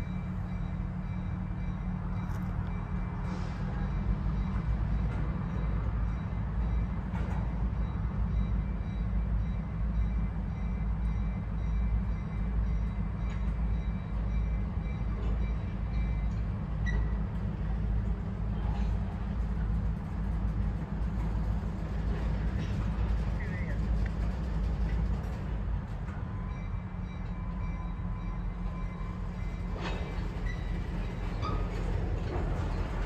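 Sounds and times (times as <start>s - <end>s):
train rumbling past: 0.0s - 33.0s.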